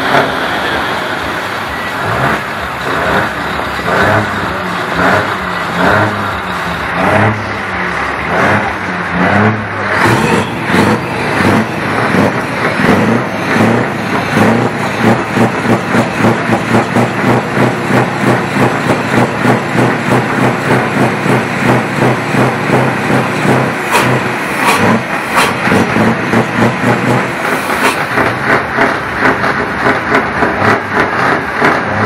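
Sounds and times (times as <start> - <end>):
diesel truck engine revving: 0.0 - 32.0.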